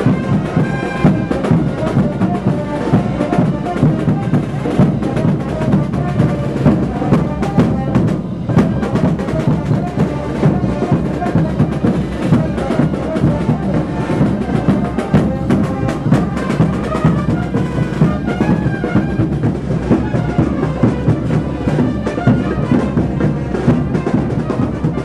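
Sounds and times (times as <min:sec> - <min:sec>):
brass band playing dance music: 0:00.0 - 0:25.0
steady drum beat: 0:00.0 - 0:25.0
trumpets playing tune: 0:00.0 - 0:25.0.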